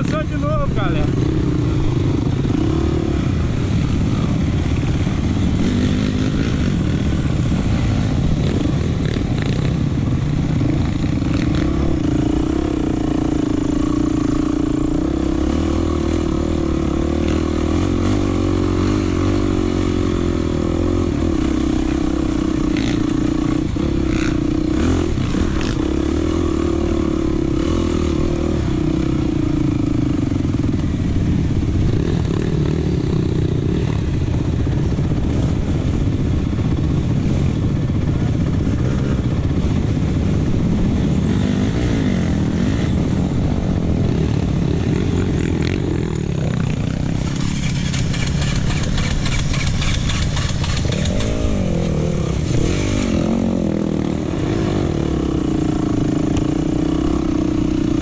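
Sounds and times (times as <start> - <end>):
trail motorcycle engine running: 0.0 - 58.0.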